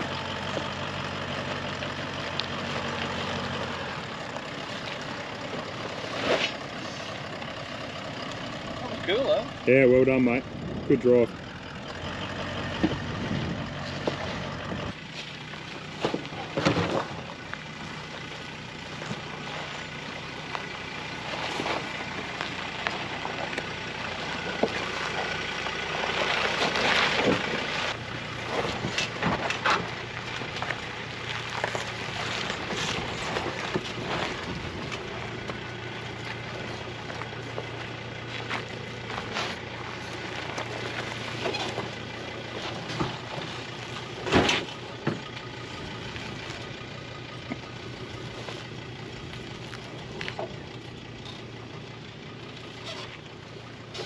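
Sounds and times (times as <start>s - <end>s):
low steady engine: 0.0s - 54.0s
tyres crunching over gravel: 0.0s - 54.0s.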